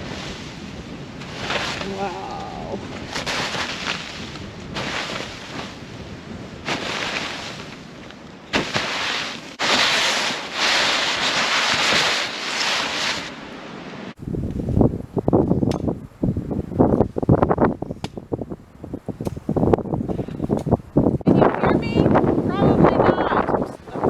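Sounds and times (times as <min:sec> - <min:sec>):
low rustling noise: 0:00.0 - 0:24.0
wind gusts: 0:00.0 - 0:24.0.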